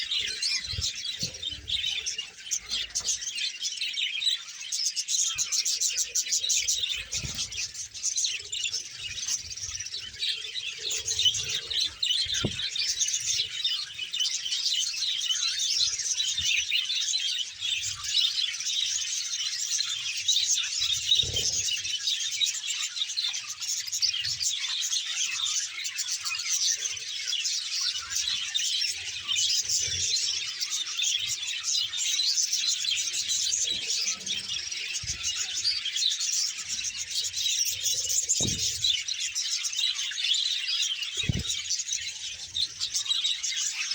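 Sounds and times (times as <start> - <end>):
budgerigars chattering and chirping: 0.0 - 43.9.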